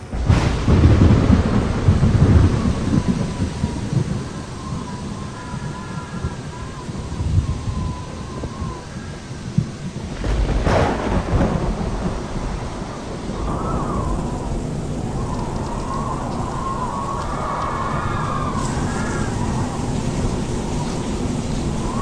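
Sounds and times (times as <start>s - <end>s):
heavy rain pouring: 0.0s - 22.0s
thunder rumbling: 0.0s - 22.0s.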